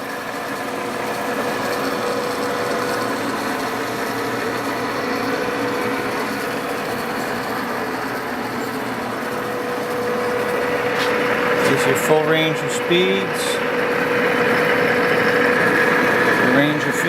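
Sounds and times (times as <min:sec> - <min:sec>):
milling machine running: 0:00.0 - 0:17.0.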